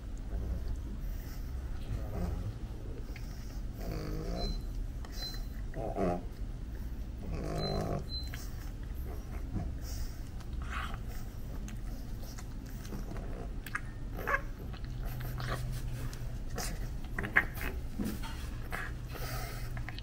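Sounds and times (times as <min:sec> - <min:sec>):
puppies chewing plush toy: 0:00.0 - 0:20.0
steady low hum: 0:00.0 - 0:20.0.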